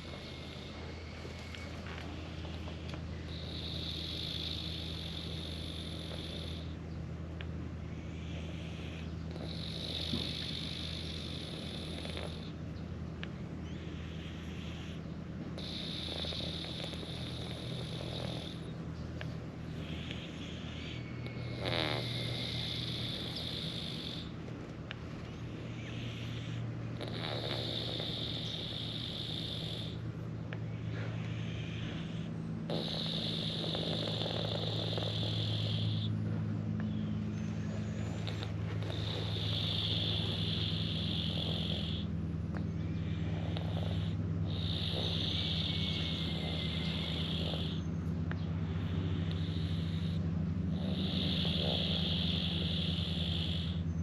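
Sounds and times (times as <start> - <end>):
cat snoring: 0.0 - 1.6, 2.5 - 6.8, 7.8 - 12.6, 13.6 - 18.8, 19.6 - 24.4, 25.6 - 30.0, 30.9 - 36.2, 37.5 - 54.0
steady low hum: 0.0 - 54.0.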